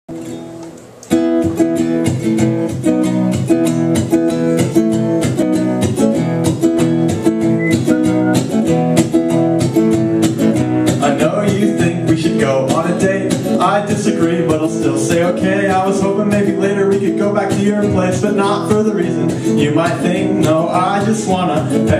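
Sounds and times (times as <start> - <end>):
acoustic guitar strumming chords: 0.1 - 21.9.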